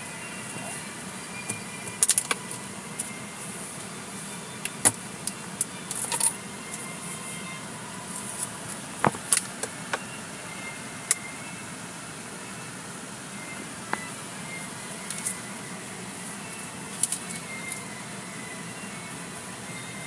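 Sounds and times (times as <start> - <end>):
car interior background noise: 0.0 - 20.0.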